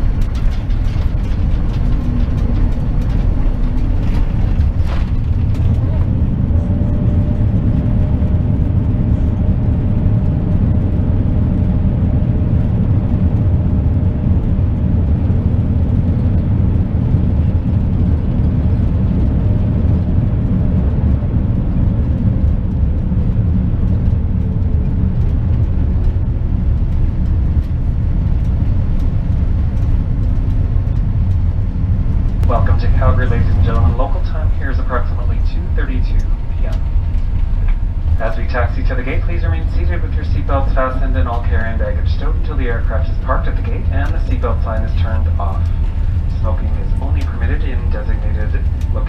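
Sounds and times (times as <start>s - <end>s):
jet cabin low rumble: 0.0s - 49.0s
jet engine whine: 0.0s - 49.0s.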